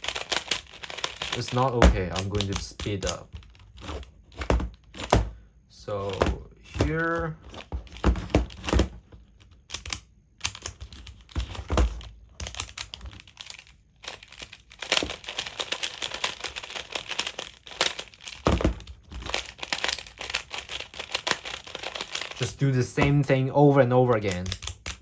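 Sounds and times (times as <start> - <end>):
puzzle cube plastic clicking: 0.0 - 5.3, 6.0 - 25.0.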